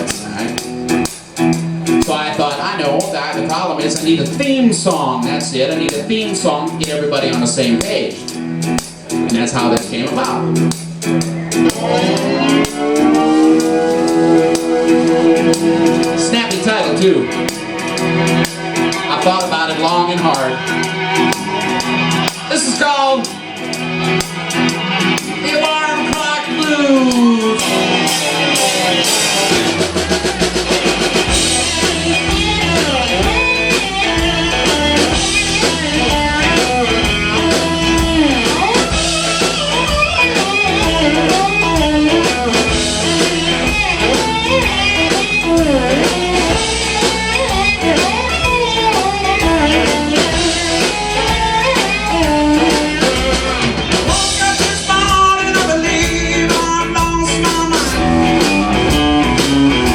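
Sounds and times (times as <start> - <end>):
blues-rock band playing: 0.0 - 59.9
drum kit beat: 0.0 - 59.9
electric guitar lead lines: 0.0 - 59.9.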